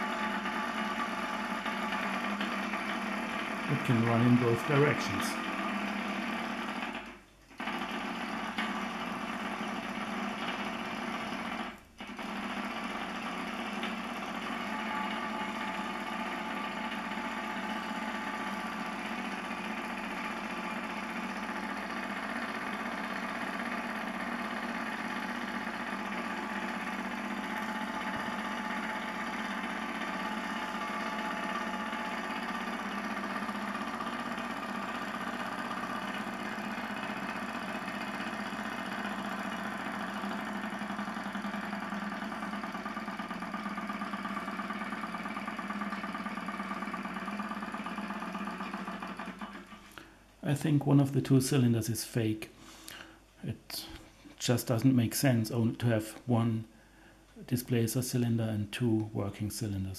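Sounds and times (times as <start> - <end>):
small engine mechanical whir: 0.0 - 50.3.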